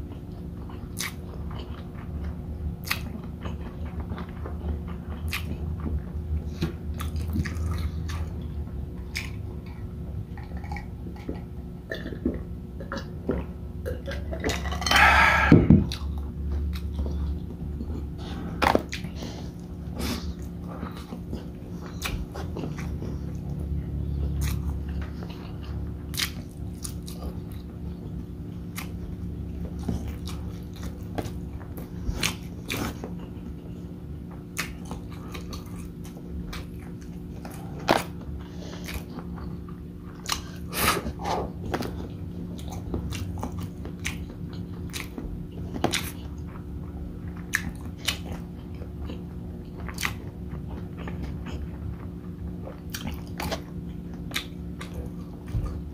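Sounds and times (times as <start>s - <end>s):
person chewing with wet mouth sounds: 0.0s - 55.9s
steady low hum: 0.0s - 55.9s.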